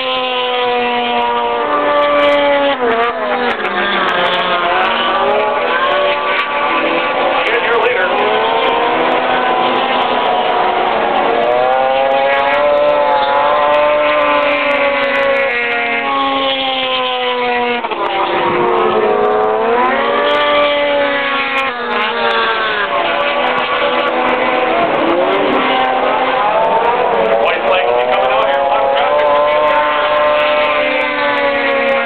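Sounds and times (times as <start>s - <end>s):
snowmobile engines revving: 0.0s - 32.0s.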